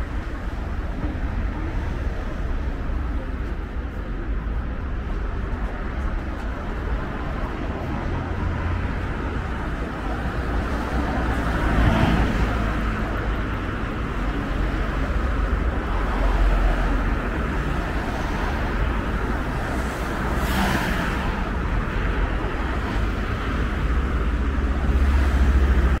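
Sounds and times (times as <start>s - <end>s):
cars passing: 0.0s - 26.0s
low traffic rumble: 0.0s - 26.0s.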